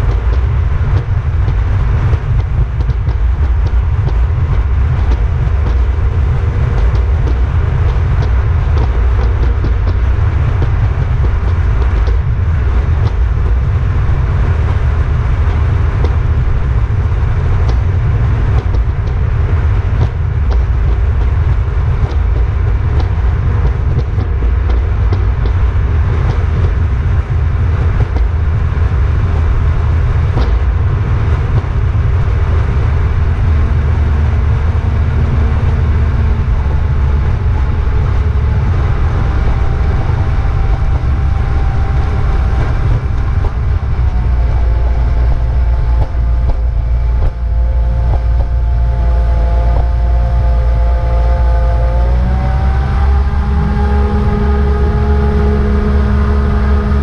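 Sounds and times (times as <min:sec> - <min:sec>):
boat motor droning: 0:00.0 - 0:57.0.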